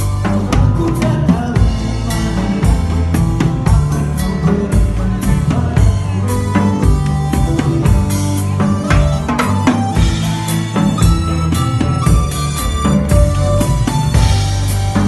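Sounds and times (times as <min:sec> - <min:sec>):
drum kit beat: 0:00.0 - 0:15.0
electric guitar: 0:00.0 - 0:15.0
keyboard: 0:00.0 - 0:15.0.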